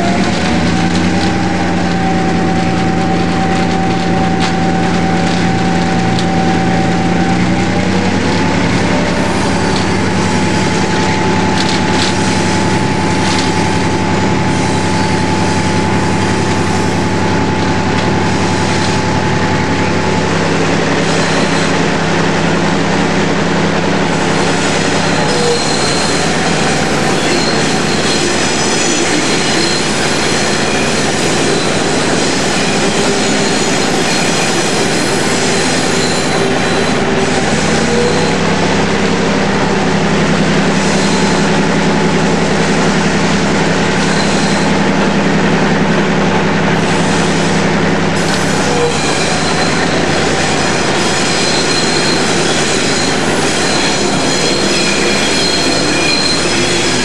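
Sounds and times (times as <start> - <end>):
diesel locomotive engine: 0.0 - 57.0
high wheel squealing: 0.0 - 57.0
wheel and rail noise: 0.0 - 57.0.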